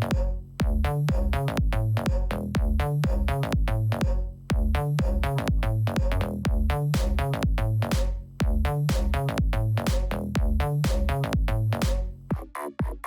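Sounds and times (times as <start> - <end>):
drum machine beat: 0.0 - 13.0
electronic music: 0.0 - 13.0
heavy bass: 0.0 - 13.0.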